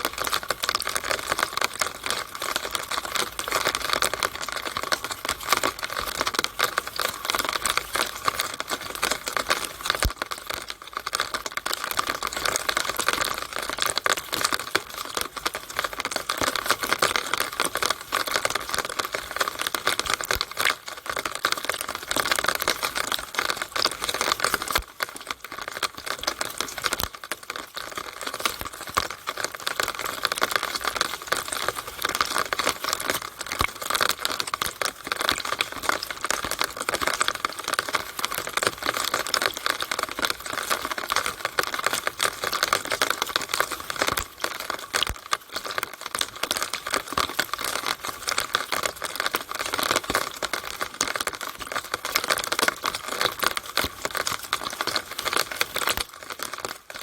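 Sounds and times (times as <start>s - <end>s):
rainwater pouring through drainpipe: 0.0s - 57.0s.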